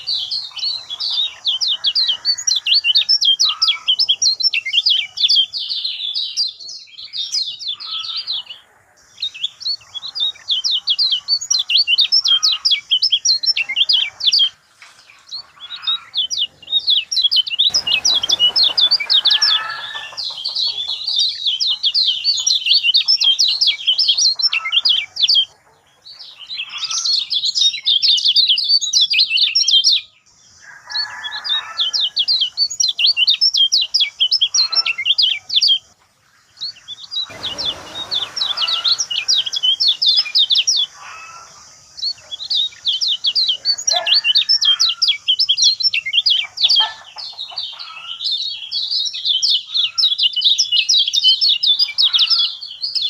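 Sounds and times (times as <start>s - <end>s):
bird chirping and trilling: 0.0s - 53.0s.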